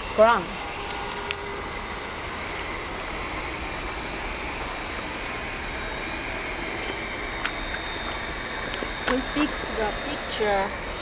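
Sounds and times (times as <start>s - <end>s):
faint high whine: 0.0s - 11.0s
heat gun blower rushing air: 0.0s - 11.0s.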